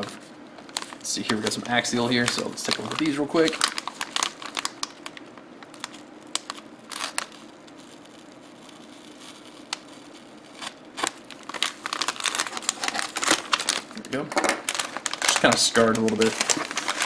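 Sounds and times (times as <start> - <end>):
plastic bag crinkling: 0.6 - 17.0.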